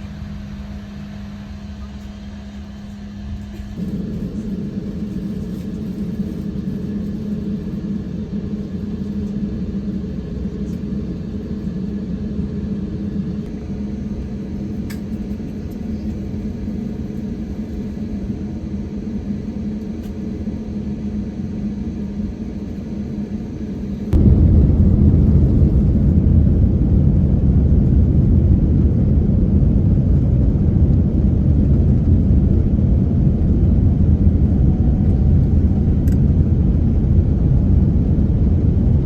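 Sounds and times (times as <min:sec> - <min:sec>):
aircraft cabin engine rumble: 0:00.0 - 0:39.0
constant hum: 0:00.0 - 0:39.0.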